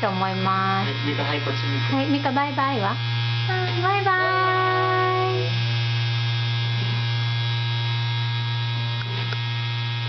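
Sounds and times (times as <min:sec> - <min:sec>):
vacuum cleaner humming: 0:00.0 - 0:10.0.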